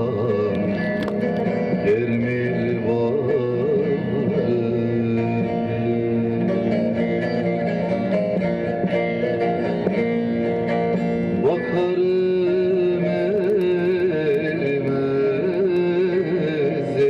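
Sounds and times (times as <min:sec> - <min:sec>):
plucked strings folk music: 0:00.0 - 0:17.0.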